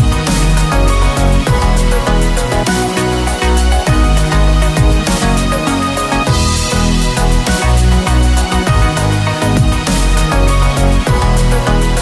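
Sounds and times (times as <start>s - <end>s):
electronic music with pulsing bass: 0.0s - 12.0s.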